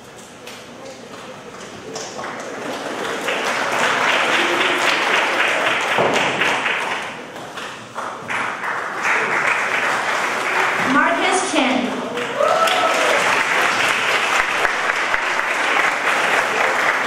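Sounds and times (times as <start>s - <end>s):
audience applauding: 1.7s - 17.0s.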